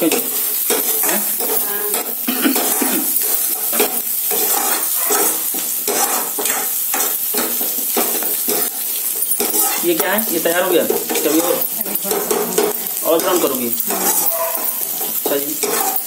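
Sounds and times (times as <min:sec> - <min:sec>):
metal spoon scraping a pan: 0:00.0 - 0:16.0
onion sizzling in hot oil: 0:00.0 - 0:16.0.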